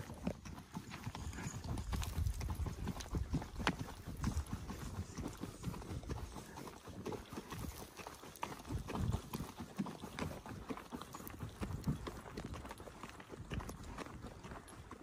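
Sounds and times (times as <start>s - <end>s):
horse hooves on dirt trail: 0.0s - 15.0s.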